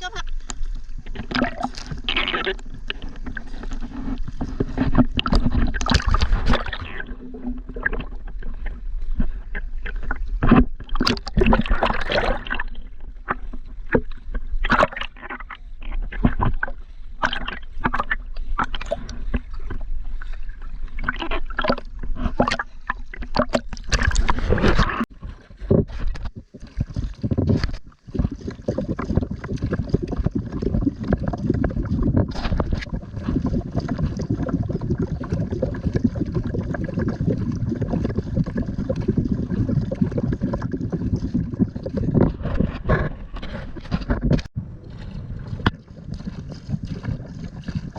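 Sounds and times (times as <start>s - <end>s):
paddle splashing water: 0.0s - 47.9s.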